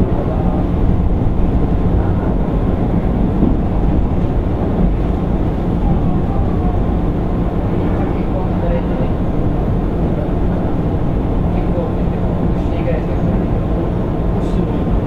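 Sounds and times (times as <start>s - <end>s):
low motor hum: 0.0s - 15.0s
train wheels rumbling on rail: 0.0s - 15.0s.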